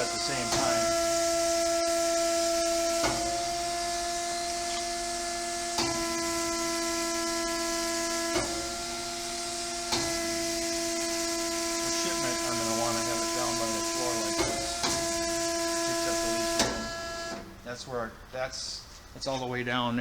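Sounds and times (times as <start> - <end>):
hydraulic drive whining: 0.0 - 18.3.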